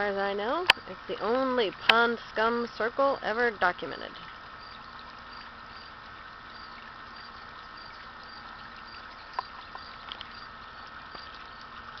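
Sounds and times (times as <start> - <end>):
fountain splashing into water: 0.0 - 12.0.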